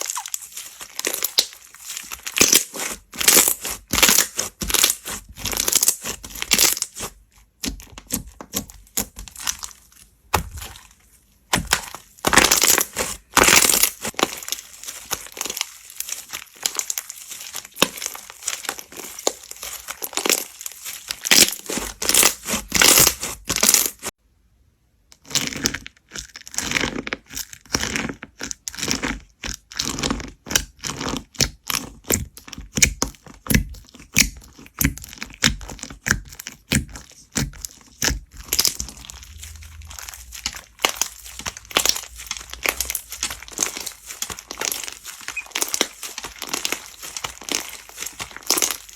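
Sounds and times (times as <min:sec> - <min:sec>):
slime squelching and popping: 0:00.0 - 0:24.1, 0:25.2 - 0:48.9.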